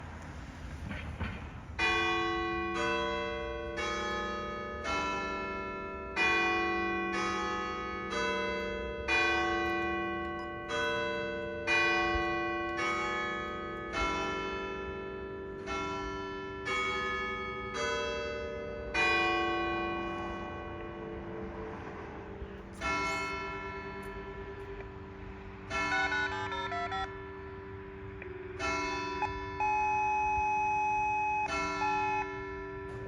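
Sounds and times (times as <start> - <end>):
church bells ringing: 1.8 - 33.0.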